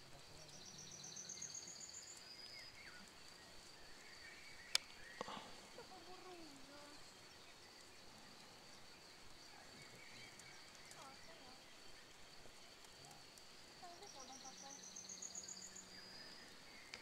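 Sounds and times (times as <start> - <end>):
faint meadow ambience: 0.0 - 17.0
steady faint high tone: 0.0 - 17.0.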